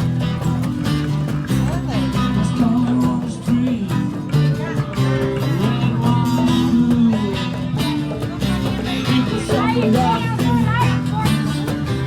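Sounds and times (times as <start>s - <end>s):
acoustic guitars strumming: 0.0s - 12.0s.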